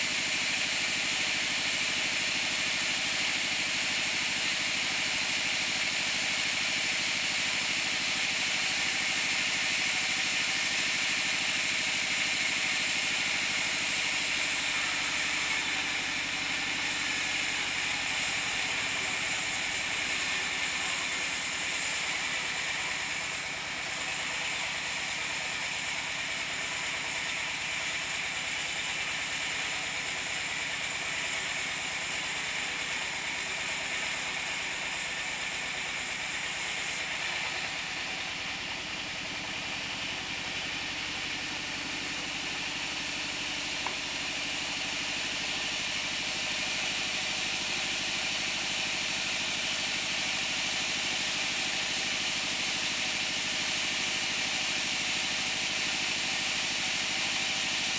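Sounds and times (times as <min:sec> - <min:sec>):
sawmill machine running: 0:00.0 - 0:57.9
saw blade cutting wood: 0:02.9 - 0:57.9.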